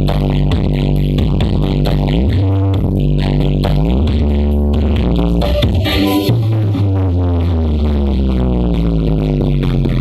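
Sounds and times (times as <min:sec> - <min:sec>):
electronic dance music with heavy bass: 0:00.0 - 0:10.0.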